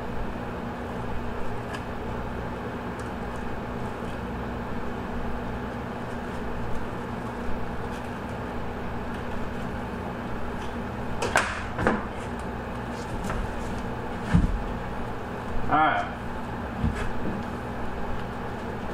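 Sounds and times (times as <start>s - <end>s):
low machine hum: 0.0s - 18.9s.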